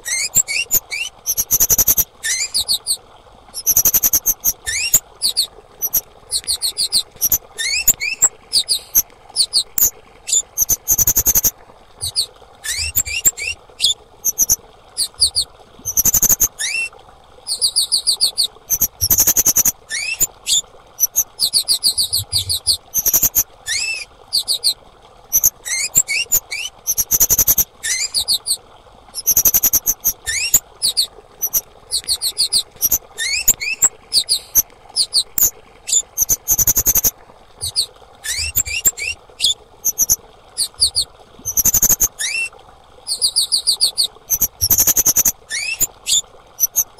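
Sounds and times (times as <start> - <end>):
bird high chirps: 0.1 - 2.9, 3.6 - 16.9, 17.5 - 24.8, 25.4 - 28.5, 29.2 - 42.5.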